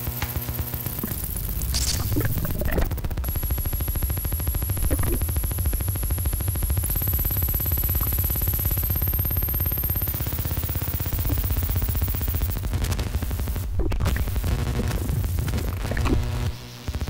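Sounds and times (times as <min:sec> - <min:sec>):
harsh pulsing synthesizer buzz: 0:00.0 - 0:17.0
noisy crackling bursts: 0:00.0 - 0:17.0.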